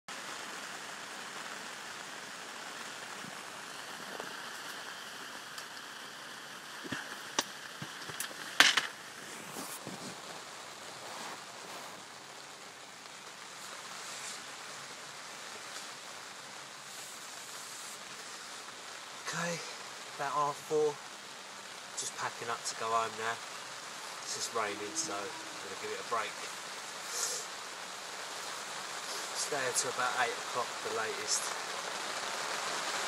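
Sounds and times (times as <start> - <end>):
rain falling on water: 0.1 - 33.0.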